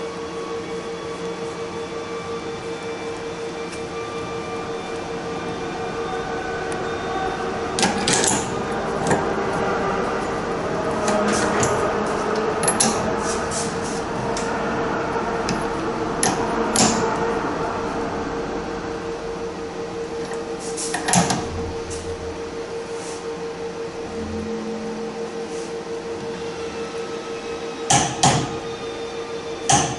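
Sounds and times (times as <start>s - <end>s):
steady workshop hum: 0.0s - 29.9s.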